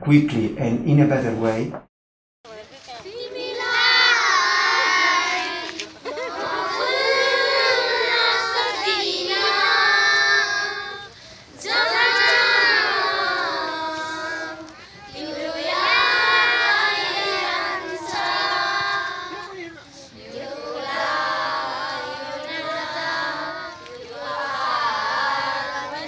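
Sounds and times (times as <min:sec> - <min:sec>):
children singing together: 0:03.0 - 0:26.0.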